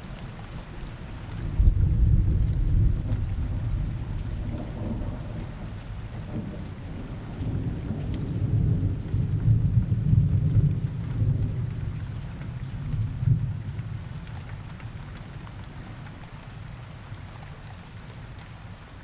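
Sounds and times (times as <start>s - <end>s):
steady rain: 0.0s - 19.0s
low rumble of thunder: 1.2s - 16.7s.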